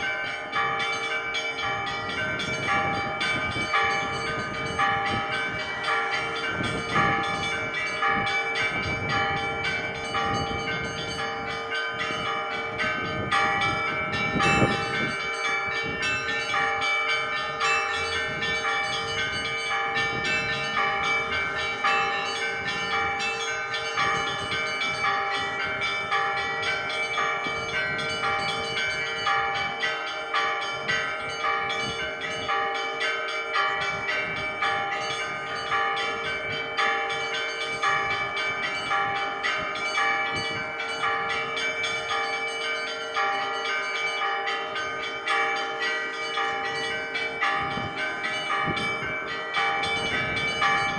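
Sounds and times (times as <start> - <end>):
church bells ringing: 0.0 - 50.9
large bell humming: 0.0 - 50.9.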